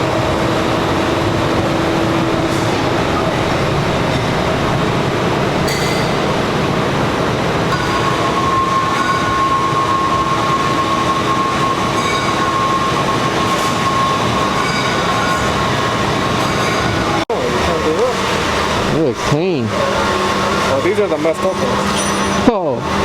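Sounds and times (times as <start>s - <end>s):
machine rumble and hiss: 0.0s - 23.0s
steady machine whine: 0.0s - 23.0s.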